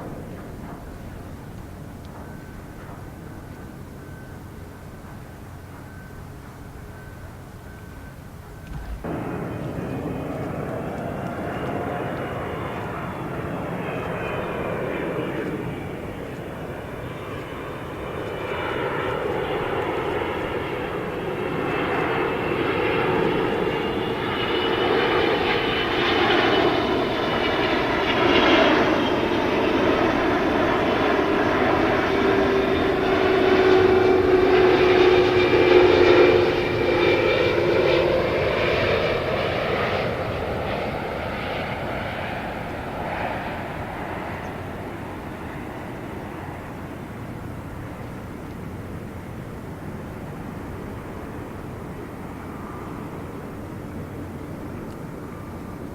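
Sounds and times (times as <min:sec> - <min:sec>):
jet airliner passing: 0:00.0 - 0:55.9.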